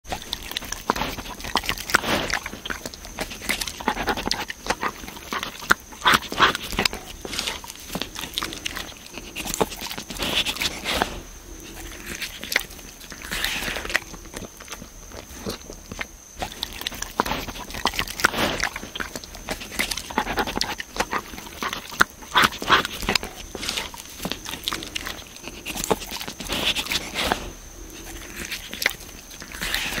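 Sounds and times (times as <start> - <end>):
deer licking and chewing: 0.1 - 30.0.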